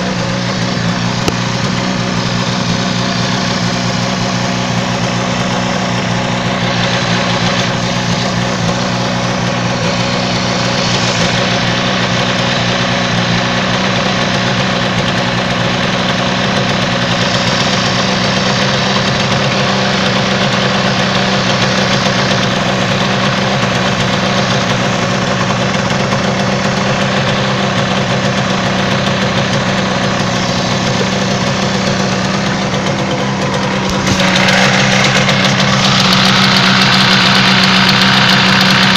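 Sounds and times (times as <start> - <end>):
two-stroke motorcycle engine idling: 0.0 - 38.9.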